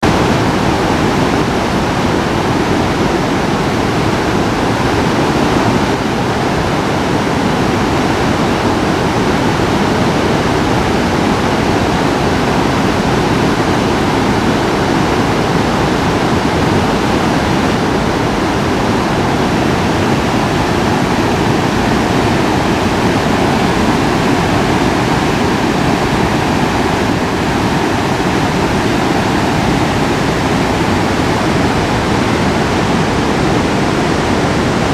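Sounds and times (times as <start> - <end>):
flood water rushing: 0.0 - 34.9.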